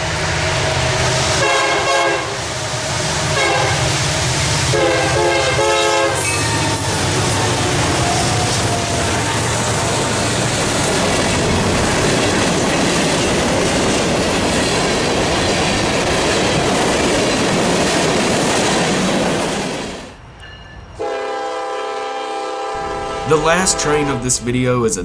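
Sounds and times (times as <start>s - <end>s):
train wheels clattering over rails: 0.0s - 20.1s.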